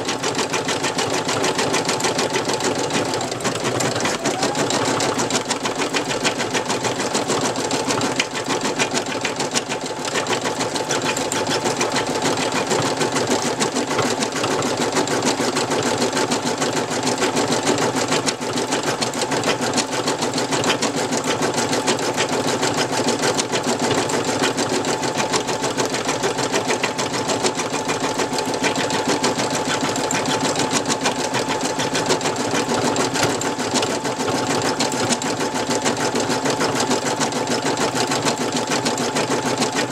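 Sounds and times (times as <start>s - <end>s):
embroidery machine needle clatter: 0.1s - 39.9s.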